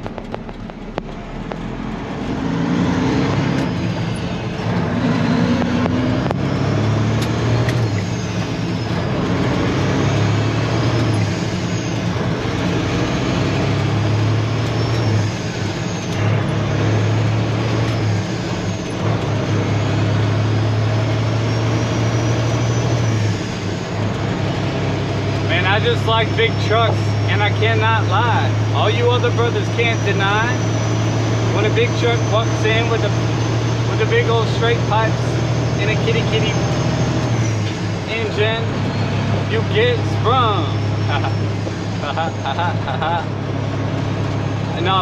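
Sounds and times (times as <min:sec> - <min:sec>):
road noise: 0:00.0 - 0:45.0
truck engine drone: 0:00.0 - 0:45.0.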